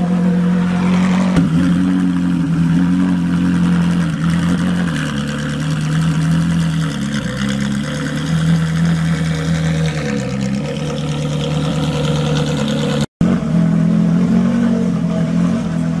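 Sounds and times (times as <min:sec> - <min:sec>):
race car engines at low revs: 0:00.0 - 0:16.0.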